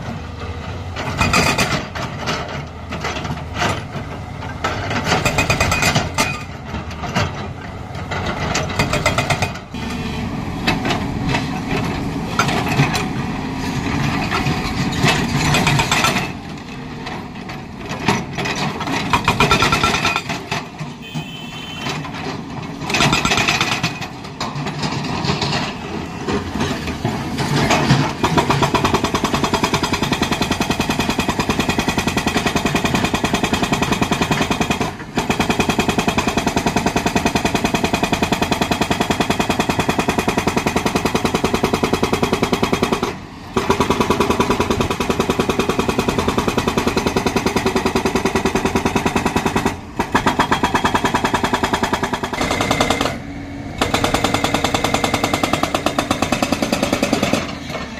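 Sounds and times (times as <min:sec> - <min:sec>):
hydraulic rock breaker hammering stone: 0:01.0 - 0:02.5, 0:04.7 - 0:07.4, 0:08.2 - 0:09.8, 0:13.9 - 0:16.5, 0:17.1 - 0:21.2, 0:21.8 - 0:53.2, 0:53.8 - 0:57.9.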